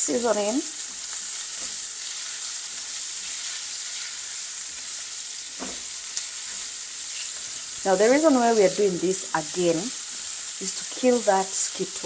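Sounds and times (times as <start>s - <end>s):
onions sizzling in a frying pan: 0.0s - 12.0s
spatula stirring in a pan: 0.8s - 11.6s.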